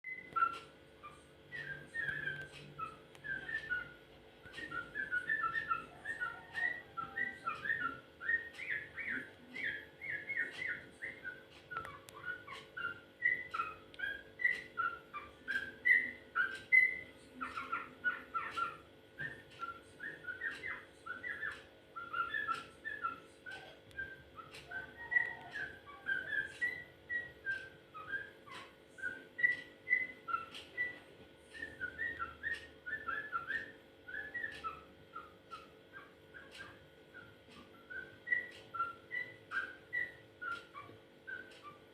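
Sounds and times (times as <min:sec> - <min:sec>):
bird whistled song: 0:00.0 - 0:41.9
faint steady hum: 0:00.0 - 0:41.9.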